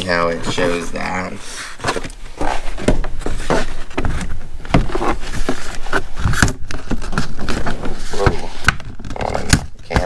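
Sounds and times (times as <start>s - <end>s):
plastic case knocks and scrapes: 1.8s - 10.0s.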